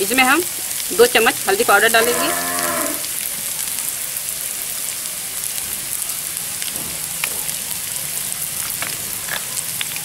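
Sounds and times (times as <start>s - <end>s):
sharp oil crackles: 0.0s - 10.0s
vegetables frying in oil: 0.0s - 10.0s.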